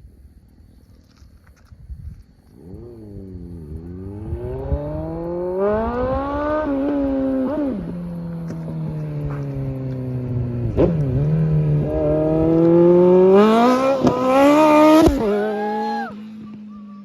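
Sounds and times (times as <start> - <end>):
motorcycle engine accelerating: 2.4 - 17.0.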